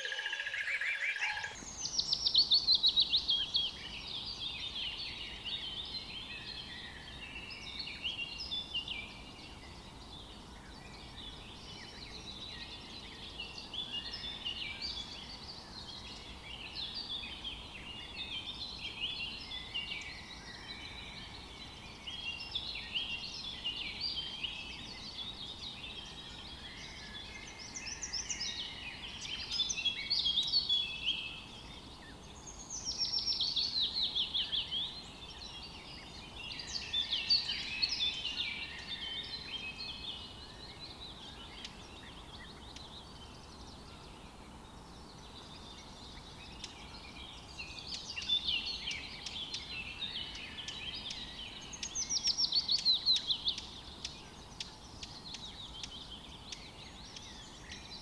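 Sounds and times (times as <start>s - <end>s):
faint background noise: 0.0s - 58.0s
songbirds chirping and trilling: 0.0s - 58.0s.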